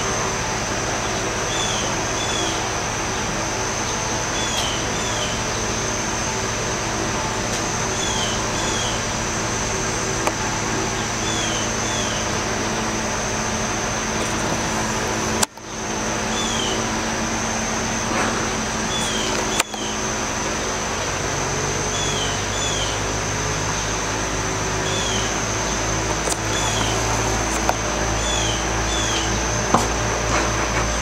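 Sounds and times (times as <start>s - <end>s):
mechanical hum and hiss: 0.0s - 31.0s.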